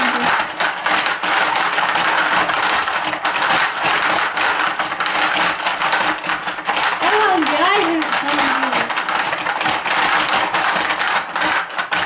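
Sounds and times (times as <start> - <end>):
marbles rattling: 0.0 - 12.0
plastic jaws clacking: 0.0 - 12.0.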